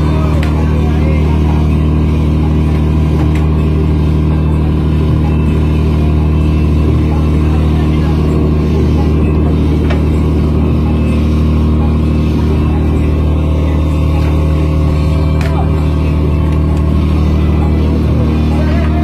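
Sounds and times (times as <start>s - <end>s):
boat engine droning: 0.0s - 19.0s
faint voices: 0.0s - 19.0s.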